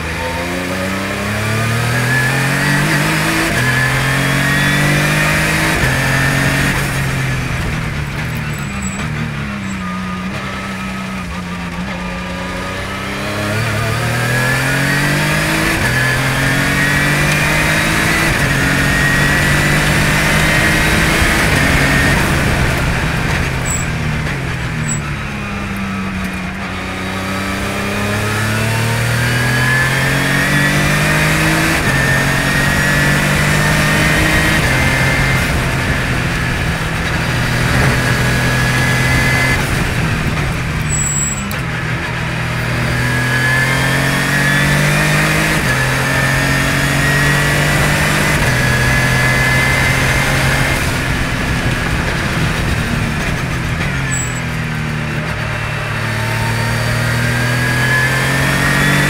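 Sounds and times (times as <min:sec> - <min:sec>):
race car engine upshifting: 0:00.0 - 0:59.0
wind and tyre noise: 0:00.0 - 0:59.0.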